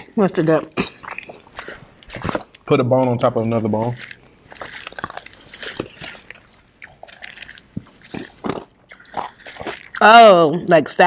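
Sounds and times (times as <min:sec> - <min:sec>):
wet chewing and biting: 0:00.0 - 0:10.3.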